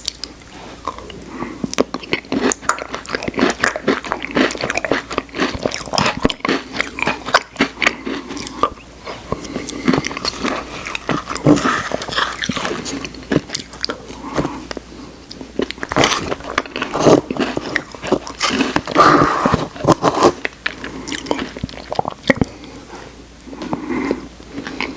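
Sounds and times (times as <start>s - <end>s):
wet chewing and smacking: 0.0s - 22.6s.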